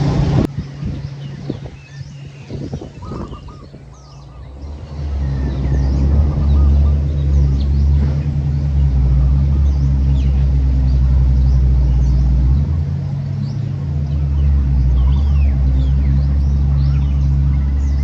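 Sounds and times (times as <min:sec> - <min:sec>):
truck engine rumbling: 0:00.0 - 0:18.0
faint birds chirping: 0:00.5 - 0:18.0.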